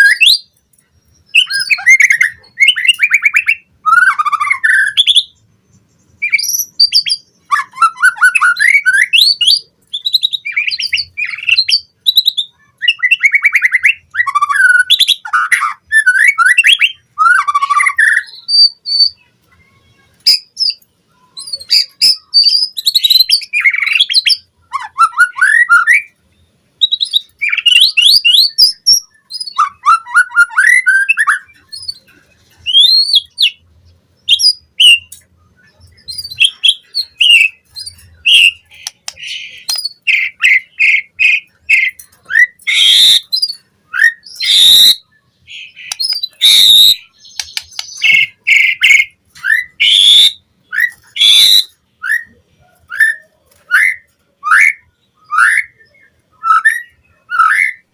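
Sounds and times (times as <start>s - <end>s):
bird singing whistles and chatter: 0.0s - 5.4s, 6.1s - 26.2s, 26.8s - 33.6s, 34.2s - 57.9s.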